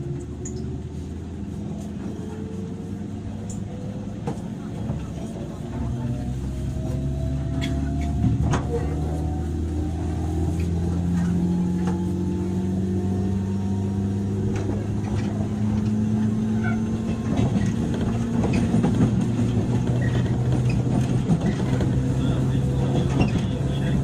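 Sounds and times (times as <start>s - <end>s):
wheel and rail noise: 0.0s - 24.0s.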